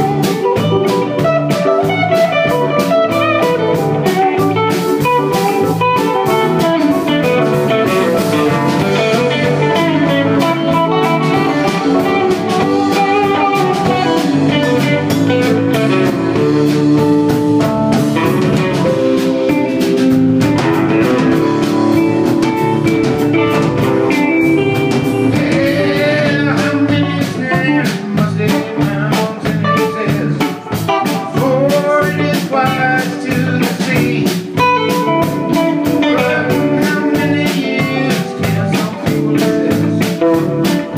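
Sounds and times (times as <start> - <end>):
bass: 0.0 - 40.9
drum kit beat: 0.0 - 40.9
electric guitar: 0.0 - 40.9
keyboard: 0.0 - 40.9.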